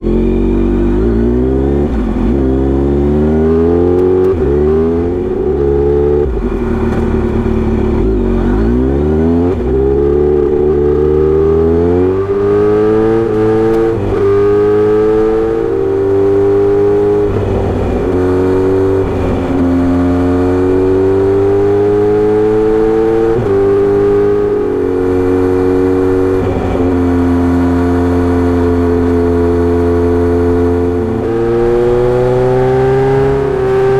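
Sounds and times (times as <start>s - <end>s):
motorcycle engine revving through gears: 0.0s - 33.9s.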